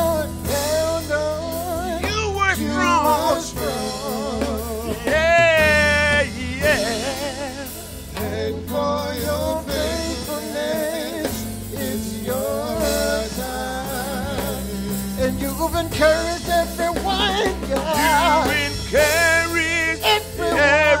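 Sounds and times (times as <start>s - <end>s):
band with steady bass line: 0.0s - 21.0s
person singing with vibrato: 0.0s - 21.0s.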